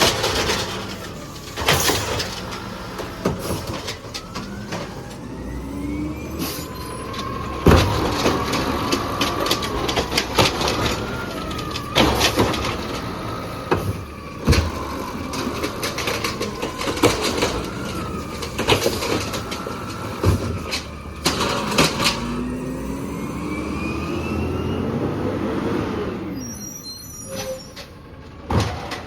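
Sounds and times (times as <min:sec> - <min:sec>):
truck engine rumble: 0:00.0 - 0:29.0.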